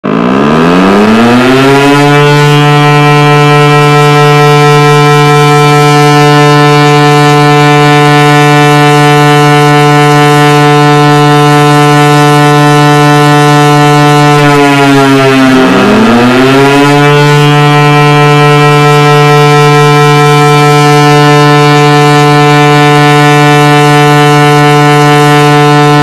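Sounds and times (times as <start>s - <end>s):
siren winding up: 0.0s - 26.0s.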